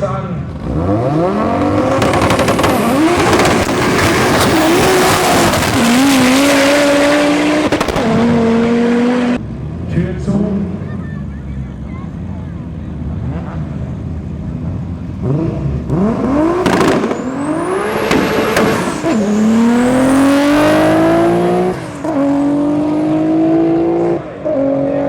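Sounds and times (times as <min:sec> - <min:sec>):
drag racing car accelerating: 0:00.2 - 0:25.0.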